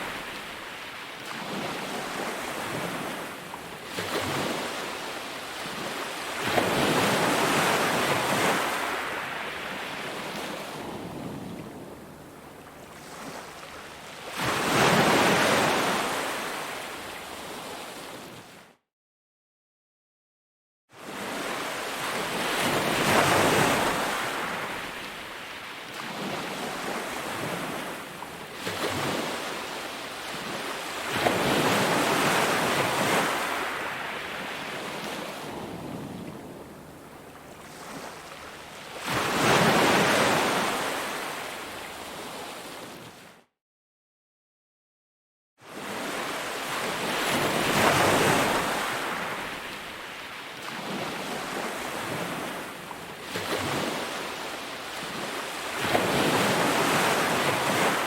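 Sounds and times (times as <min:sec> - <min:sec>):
sea waves breaking on beach: 0:00.0 - 0:18.6, 0:21.0 - 0:43.3, 0:45.6 - 0:58.0.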